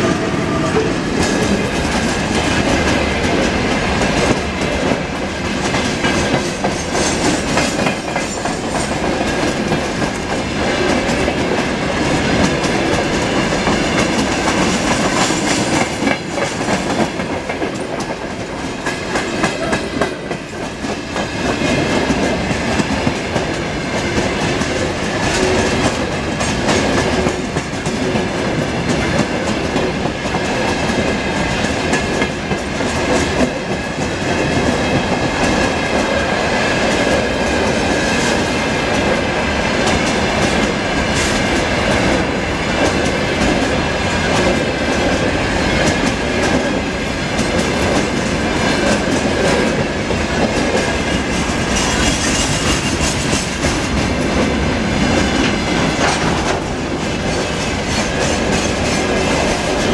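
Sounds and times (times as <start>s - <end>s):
train wheels rumbling and clacking: 0.0s - 59.9s.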